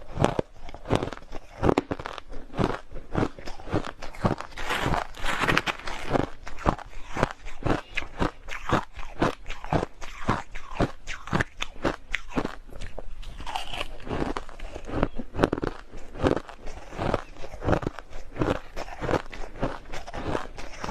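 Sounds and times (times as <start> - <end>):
crushed ice being chewed: 0.0 - 20.9.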